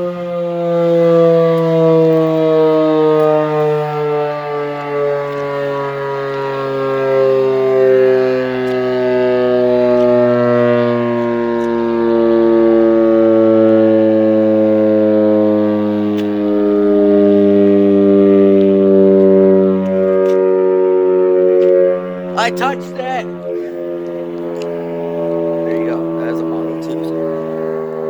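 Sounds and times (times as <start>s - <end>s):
warning siren: 0.0s - 28.0s.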